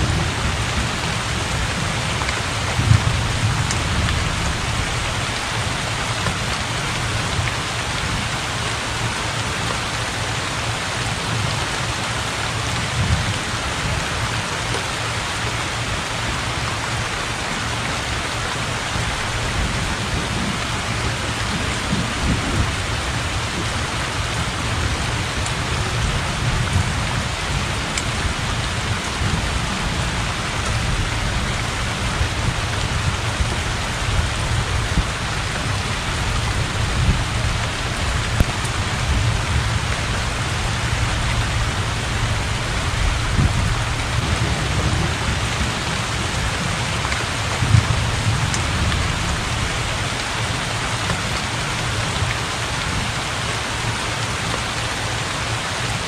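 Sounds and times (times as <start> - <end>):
low rumble of thunder: 0.0 - 14.5, 15.2 - 54.0
heavy rain on water and roof: 0.0 - 56.0.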